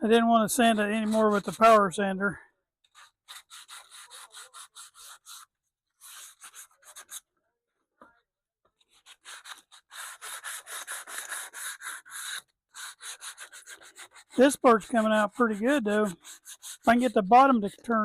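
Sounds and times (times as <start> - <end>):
sandpaper rasping on wood: 0.6 - 1.8, 2.9 - 7.2, 8.9 - 18.0.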